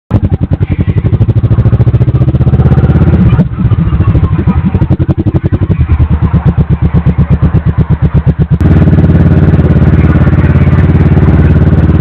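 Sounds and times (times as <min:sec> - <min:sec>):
motorcycle engine running: 0:00.1 - 0:12.0.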